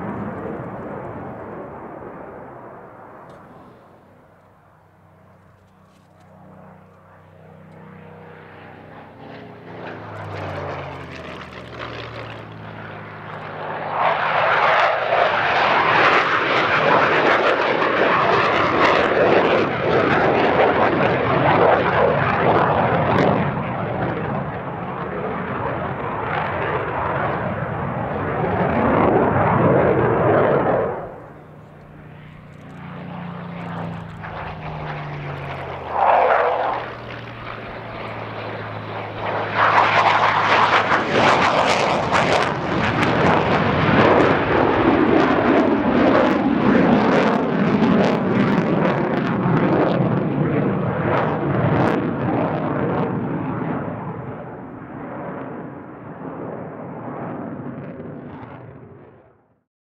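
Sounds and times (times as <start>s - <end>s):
jet engines roaring: 0.0s - 59.3s.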